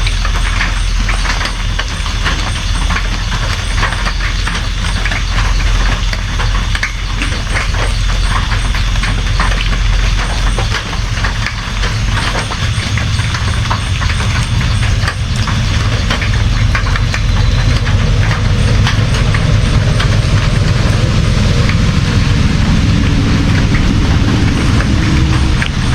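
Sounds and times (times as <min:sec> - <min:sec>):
deep rumble: 0:00.0 - 0:25.9
raindrops ticking: 0:00.0 - 0:25.9.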